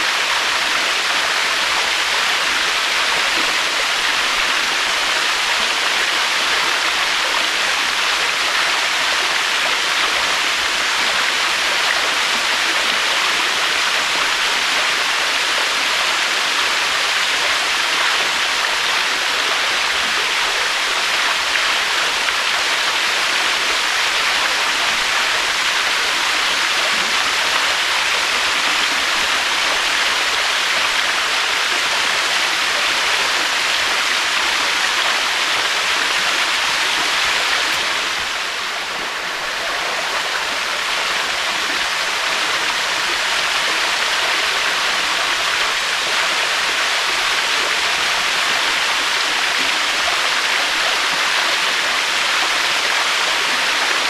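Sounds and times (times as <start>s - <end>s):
waterfall rushing: 0.0s - 53.6s.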